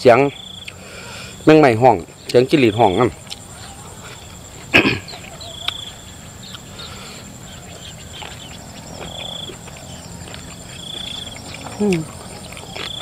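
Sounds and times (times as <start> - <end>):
crickets chirping trills: 0.0 - 13.0
high insect whine: 0.0 - 13.0.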